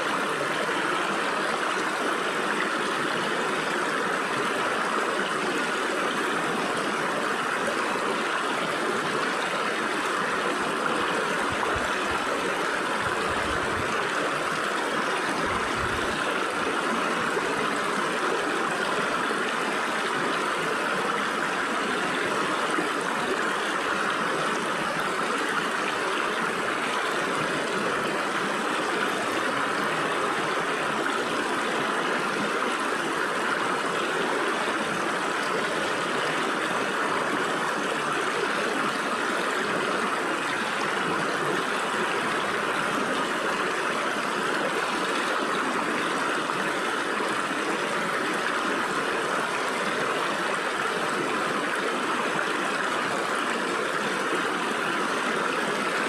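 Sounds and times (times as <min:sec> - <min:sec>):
stream water rushing over rocks: 0:00.0 - 0:56.0.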